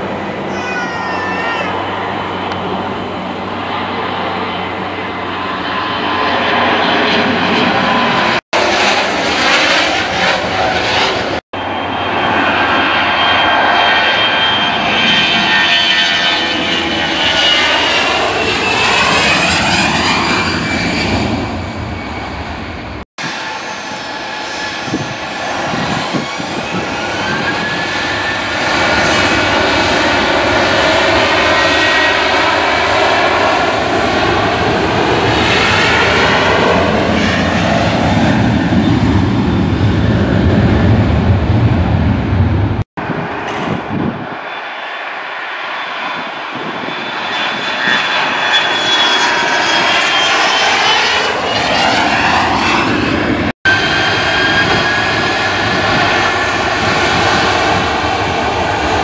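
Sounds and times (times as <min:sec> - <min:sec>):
jet engine whine: 0:00.0 - 0:59.0
jet engines running: 0:00.0 - 0:59.0.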